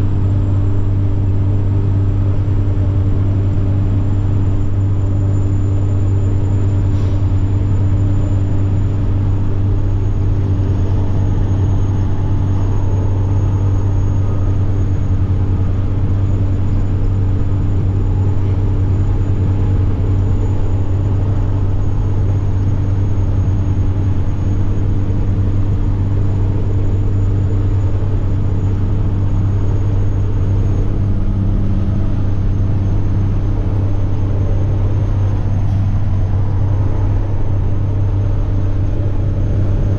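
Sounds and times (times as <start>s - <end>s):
truck diesel engine droning: 0.0s - 39.9s
turbocharger whine: 0.0s - 39.9s.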